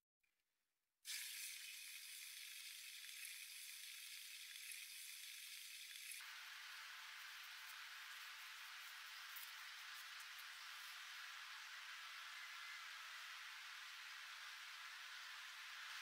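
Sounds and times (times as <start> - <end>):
faint steady hiss: 1.1 - 16.0.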